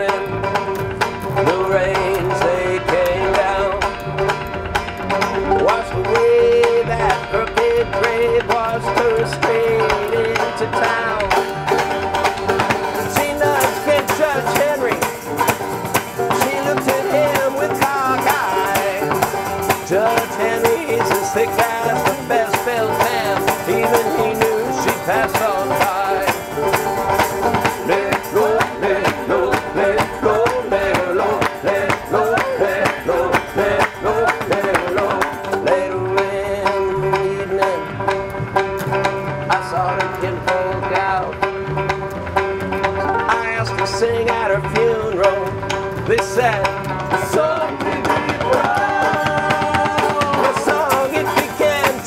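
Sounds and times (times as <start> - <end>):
banjos picking: 0.0 - 52.0
plucked upright bass: 0.0 - 52.0.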